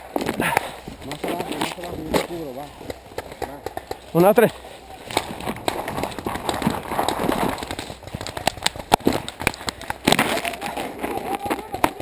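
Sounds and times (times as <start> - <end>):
sharp cracks: 0.0 - 12.0.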